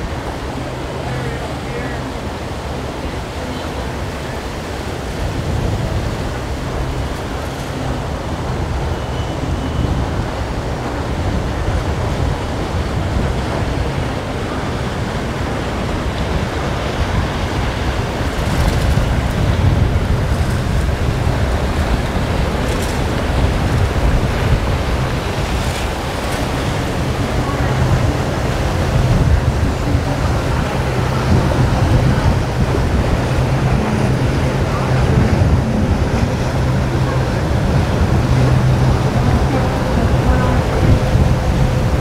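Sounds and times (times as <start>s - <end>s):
boat wakes rushing on water: 0.0s - 42.0s
wind rumble on microphone: 0.0s - 42.0s.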